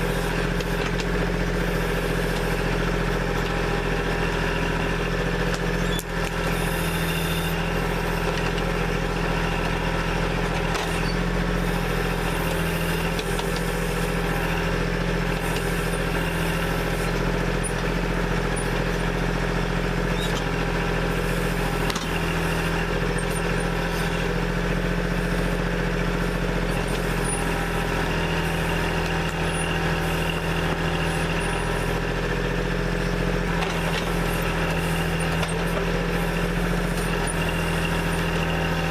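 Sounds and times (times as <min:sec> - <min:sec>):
diesel backhoe engine running: 0:00.0 - 0:38.9.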